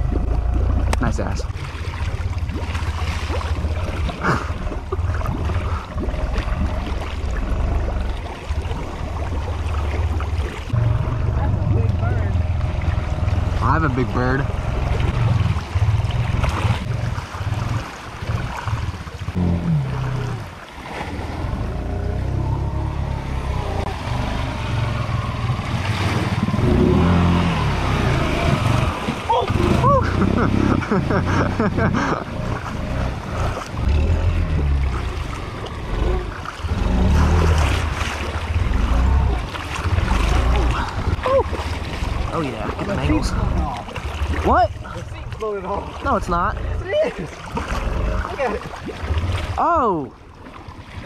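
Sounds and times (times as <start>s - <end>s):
low engine drone: 0.0s - 50.4s
water churning and splashing: 0.0s - 51.0s.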